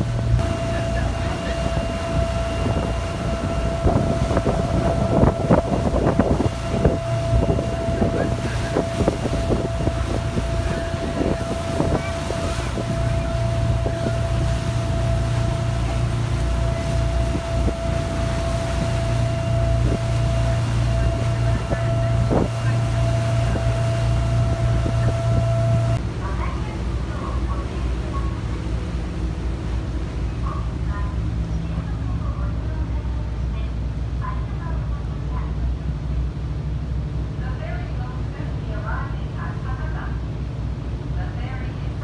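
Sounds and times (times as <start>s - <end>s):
wind buffeting microphone: 0.0s - 35.9s
ferry engine droning: 0.0s - 42.0s.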